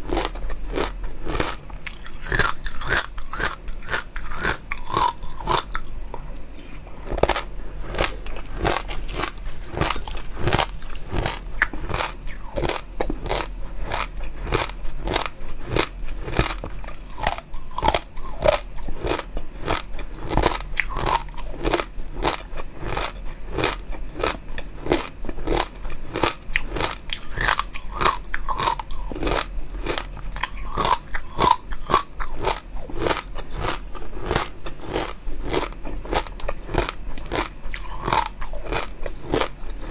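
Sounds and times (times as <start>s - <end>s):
crunchy chewing and biting: 0.0s - 39.9s.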